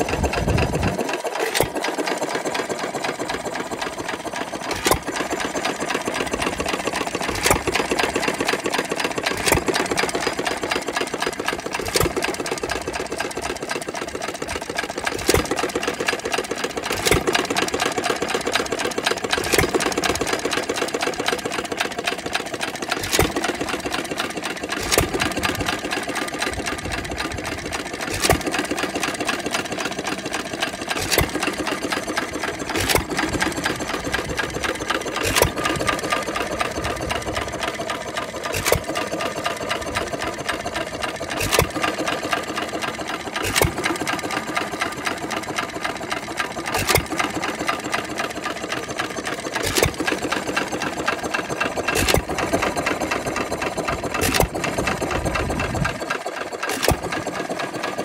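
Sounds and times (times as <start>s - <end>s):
engine mechanical clatter: 0.0s - 58.0s.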